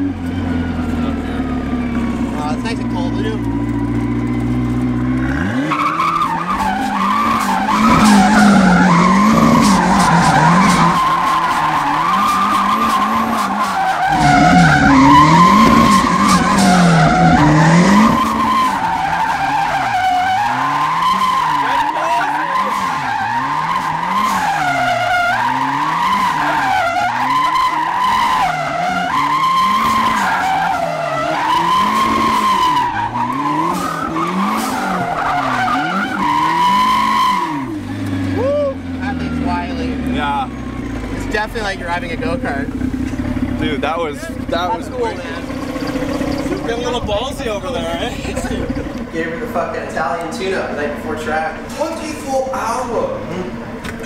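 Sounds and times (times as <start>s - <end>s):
car engine revving: 0.0s - 54.0s
tyres squealing on tarmac: 5.4s - 41.4s, 44.2s - 54.0s.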